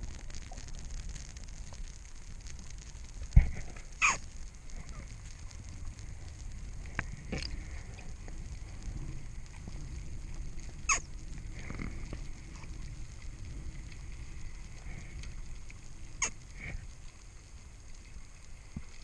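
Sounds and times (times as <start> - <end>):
low underwater rumble: 0.0 - 19.0.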